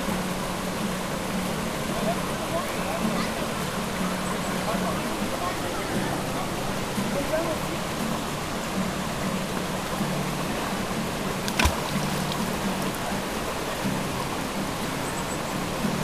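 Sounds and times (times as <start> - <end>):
creek flowing over boulders: 0.0 - 16.0.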